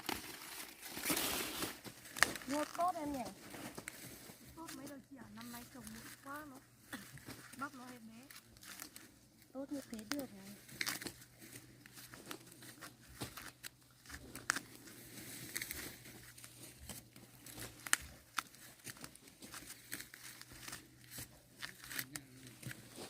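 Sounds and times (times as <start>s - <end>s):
corn ears snapping: 0.0s - 23.0s
dry corn plants rustling: 0.0s - 23.0s.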